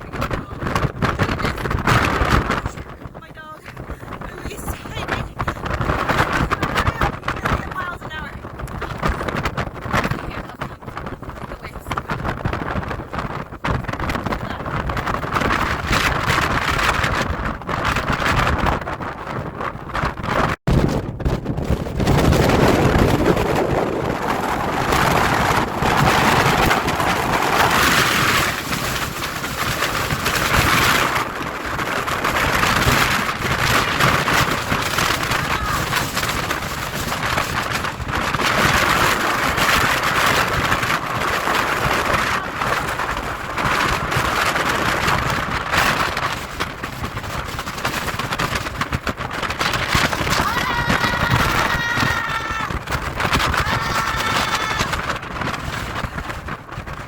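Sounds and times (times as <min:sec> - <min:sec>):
heavy ocean surf: 0:00.0 - 0:17.1, 0:21.9 - 0:57.0
wind buffeting microphone: 0:00.0 - 0:57.0.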